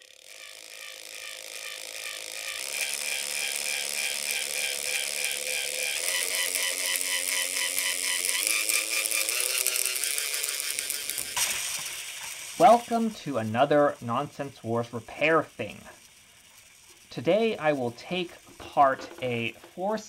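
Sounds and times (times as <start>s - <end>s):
gear clicking: 0.0s - 20.0s
toy motor whine: 0.0s - 20.0s.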